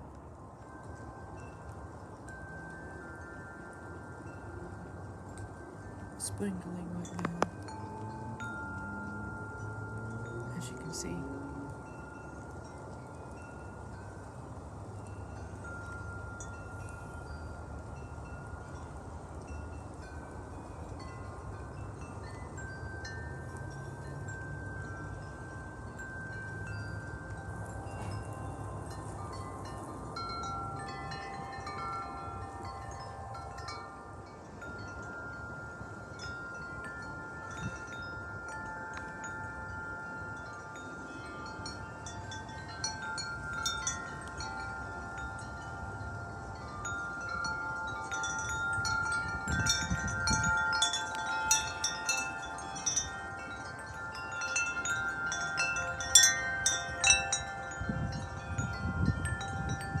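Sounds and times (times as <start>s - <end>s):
metal wind chimes ringing: 0.0s - 60.0s
wind rumble on microphone: 0.0s - 60.0s.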